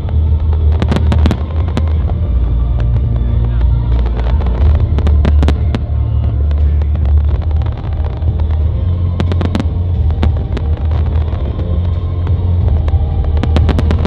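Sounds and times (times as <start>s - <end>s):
firework bangs and crackles: 0.0s - 14.0s
low rumble: 0.0s - 14.0s.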